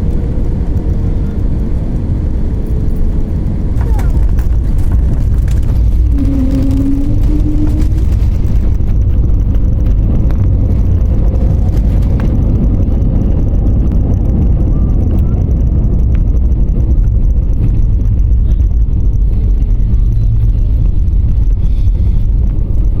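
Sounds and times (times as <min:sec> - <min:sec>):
jet engines rumbling: 0:00.0 - 0:23.0
wheels on runway: 0:00.0 - 0:23.0.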